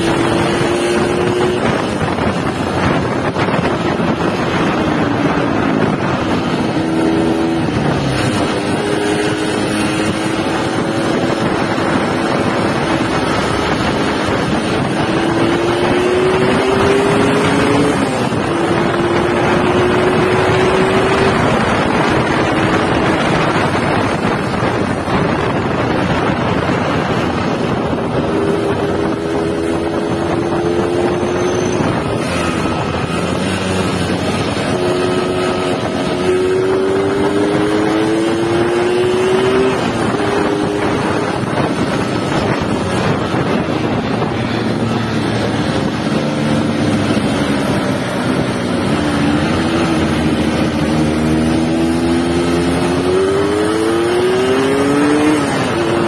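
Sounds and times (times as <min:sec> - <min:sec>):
motorcycle engine revving: 0:00.0 - 0:56.0
wind buffeting microphone: 0:00.0 - 0:56.0.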